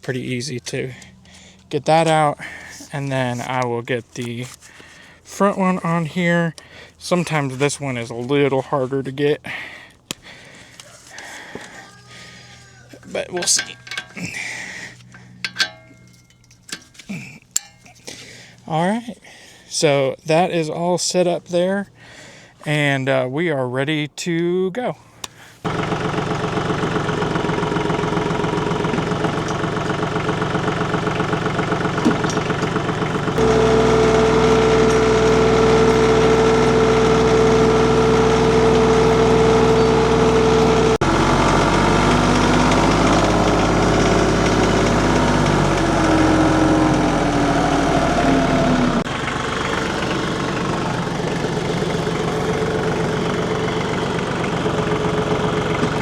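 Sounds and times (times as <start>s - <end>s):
tractor engine running: 0.0s - 18.8s, 25.3s - 56.0s.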